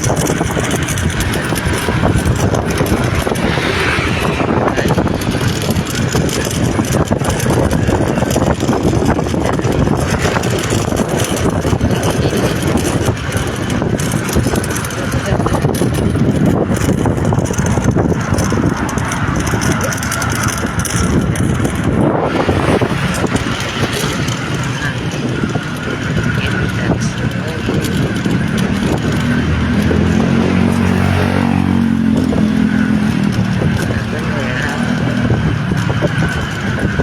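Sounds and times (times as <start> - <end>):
road noise: 0.0 - 37.0
vehicle engine: 0.0 - 37.0.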